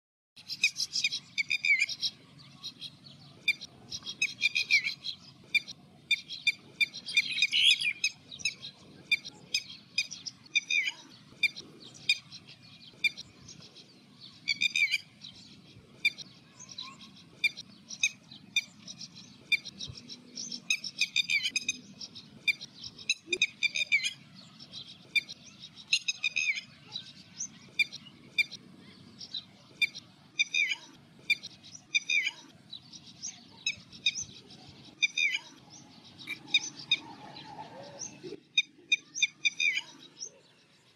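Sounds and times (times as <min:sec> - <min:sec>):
lapwing calling: 0:00.4 - 0:40.4.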